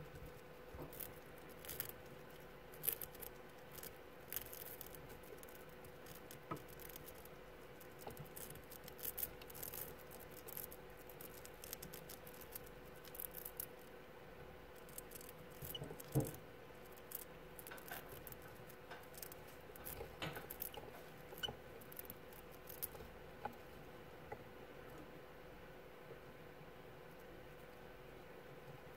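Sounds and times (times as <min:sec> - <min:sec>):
mice gnawing crunchy snack: 0:00.0 - 0:25.2
faint steady hum: 0:00.0 - 0:28.9.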